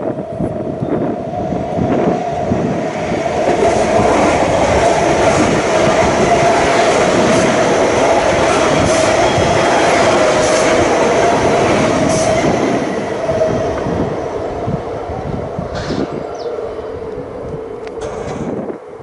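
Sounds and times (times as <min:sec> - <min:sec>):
train running: 0:00.0 - 0:19.0.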